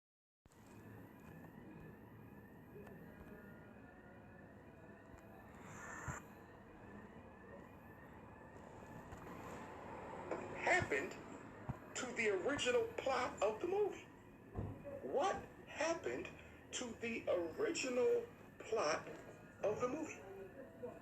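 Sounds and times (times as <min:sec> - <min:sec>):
siren yelping: 0:00.7 - 0:21.0.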